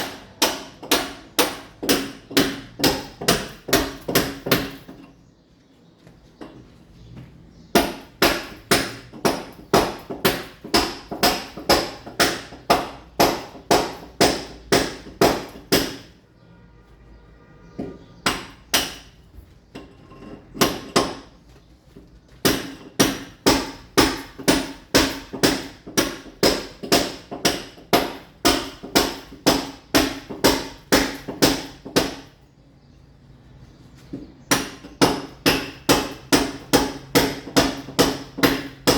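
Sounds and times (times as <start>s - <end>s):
hammer striking a chisel: 0.0s - 5.1s, 7.7s - 16.2s, 17.8s - 19.2s, 19.8s - 21.4s, 22.4s - 32.4s, 34.1s - 38.9s.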